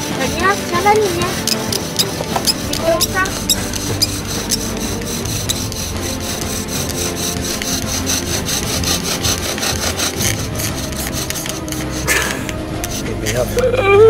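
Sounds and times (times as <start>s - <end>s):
bow drill rubbing wood: 0.0s - 13.9s.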